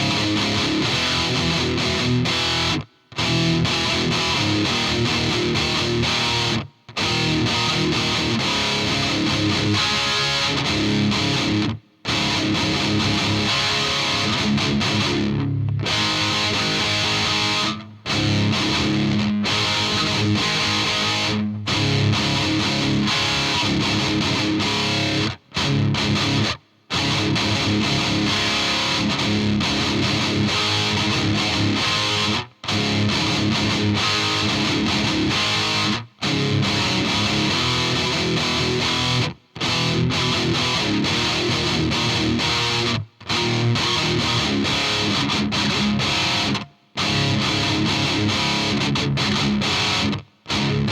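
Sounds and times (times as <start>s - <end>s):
distorted electric guitar: 0.0s - 50.9s.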